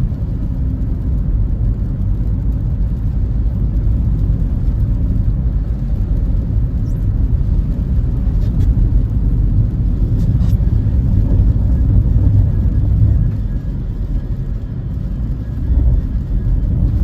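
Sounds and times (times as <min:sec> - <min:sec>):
car driving road rumble: 0:00.0 - 0:17.0.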